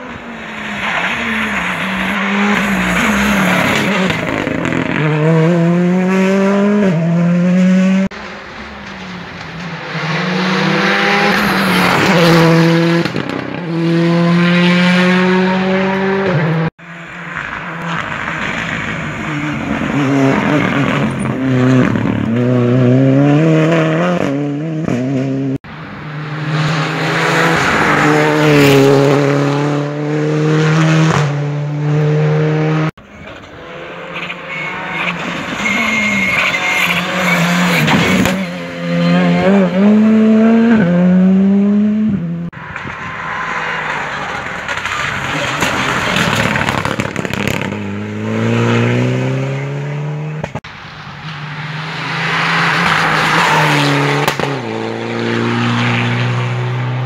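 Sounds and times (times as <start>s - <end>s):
rally cars accelerating hard: 0.0s - 57.0s.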